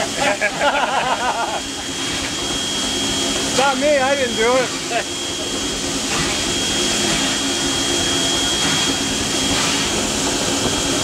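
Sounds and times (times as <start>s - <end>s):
steam locomotive cab roar: 0.0s - 11.0s.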